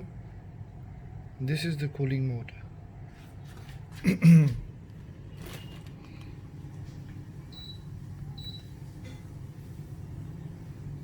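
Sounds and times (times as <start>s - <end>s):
air conditioner fan humming: 0.0s - 11.0s.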